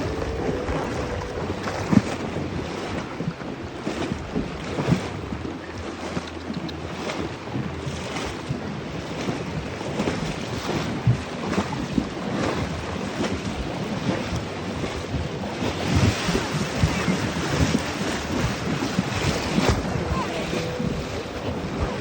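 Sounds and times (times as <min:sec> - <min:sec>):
hooves splashing in water: 0:00.0 - 0:22.0
wind buffeting microphone: 0:00.0 - 0:22.0.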